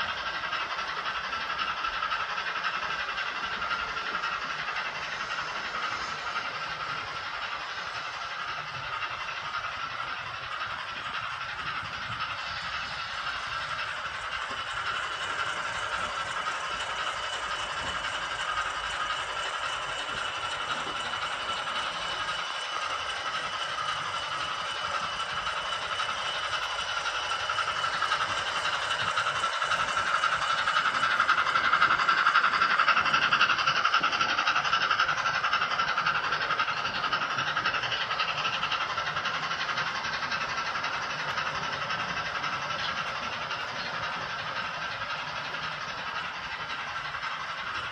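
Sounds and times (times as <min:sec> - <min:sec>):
model steam locomotive running sounds: 0:00.0 - 0:47.9.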